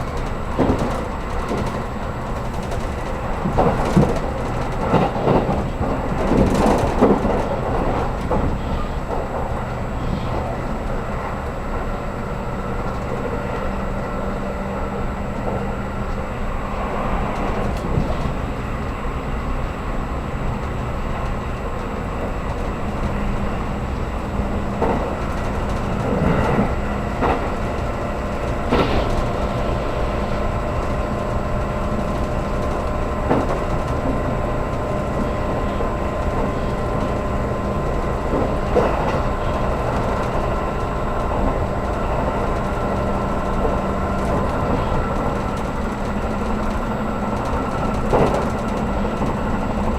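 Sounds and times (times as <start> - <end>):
train running rumble: 0.0 - 49.9.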